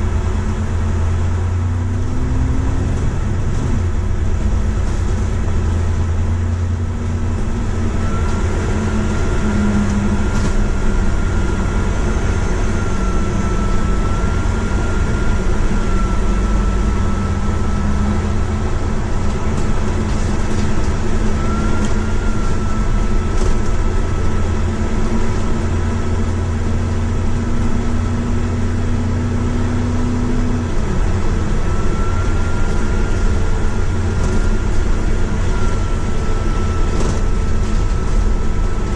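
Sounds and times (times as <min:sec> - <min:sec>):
bus engine drone: 0:00.0 - 0:38.9
low hum shifting pitch: 0:00.0 - 0:38.9
road noise: 0:00.0 - 0:38.9
thin steady whine: 0:00.0 - 0:38.9.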